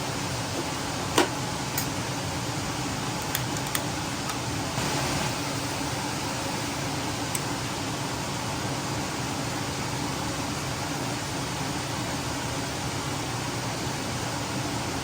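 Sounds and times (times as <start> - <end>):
fan-like room hum: 0.0 - 15.0.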